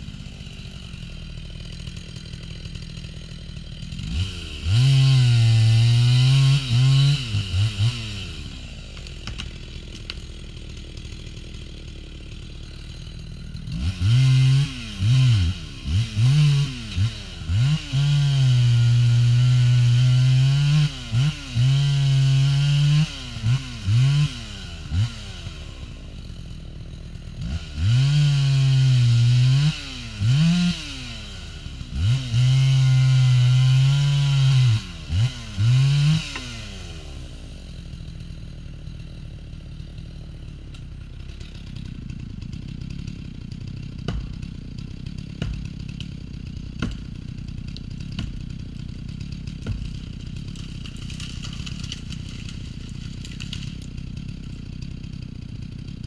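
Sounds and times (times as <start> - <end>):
chainsaw revving and cutting log: 0.0 - 56.0.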